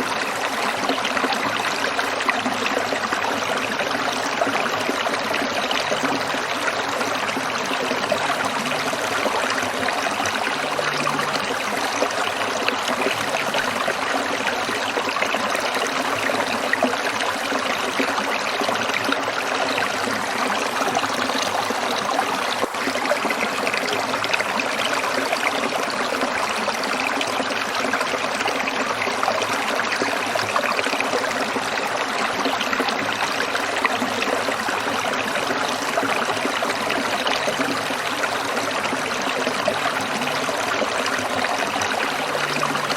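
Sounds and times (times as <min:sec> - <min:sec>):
stream trickling over rocks: 0:00.0 - 0:42.9.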